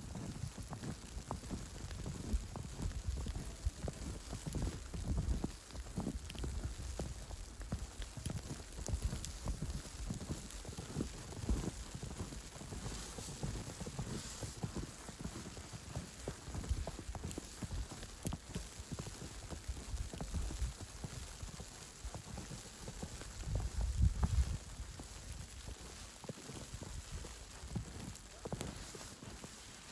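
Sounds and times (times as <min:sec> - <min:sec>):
footsteps on snow: 0:00.1 - 0:29.9.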